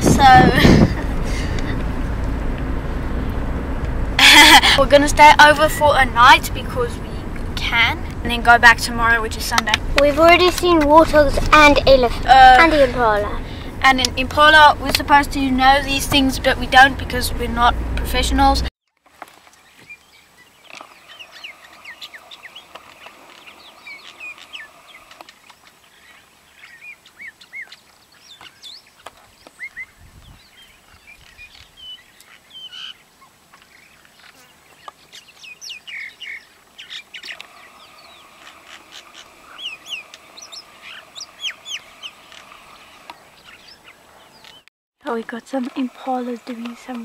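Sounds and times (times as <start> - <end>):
birds chirping: 0.0 - 18.7, 19.3 - 47.0.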